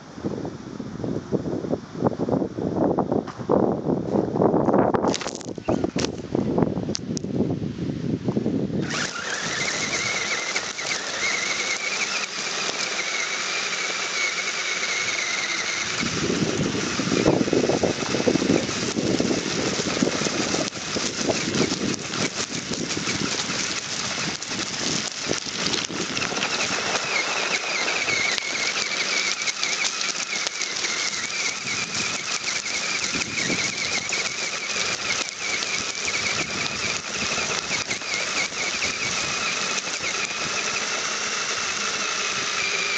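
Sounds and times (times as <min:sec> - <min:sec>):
tyres crunching on gravel: 0:05.0 - 0:07.3, 0:08.8 - 0:42.9
toy car motor whining: 0:05.1 - 0:06.2, 0:08.8 - 0:42.9.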